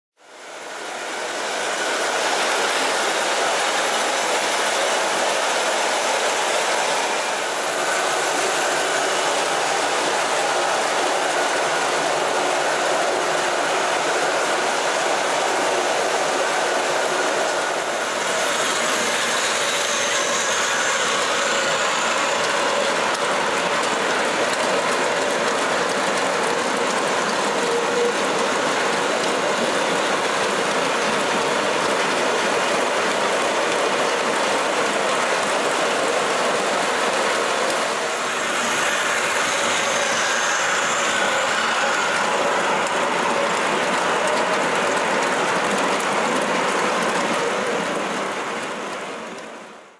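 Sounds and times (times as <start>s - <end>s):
model train wheels clattering: 1.1s - 49.9s.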